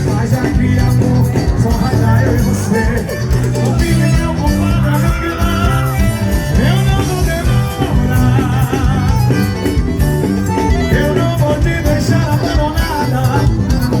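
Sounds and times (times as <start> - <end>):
live band with driving beat: 0.0 - 14.0
person singing: 0.0 - 14.0.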